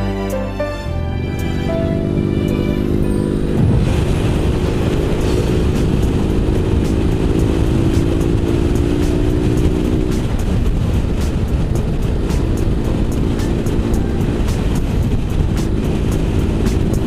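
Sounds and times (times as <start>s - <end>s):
wind rush: 0.8s - 17.0s
motorcycle engine rumble: 1.1s - 17.0s.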